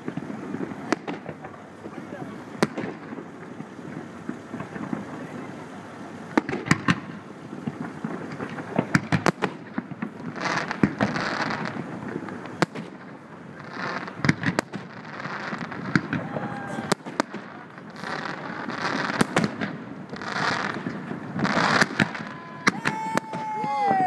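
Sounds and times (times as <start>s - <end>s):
firework shells bursting: 0.0s - 23.9s
crackling firework hiss: 0.0s - 24.0s.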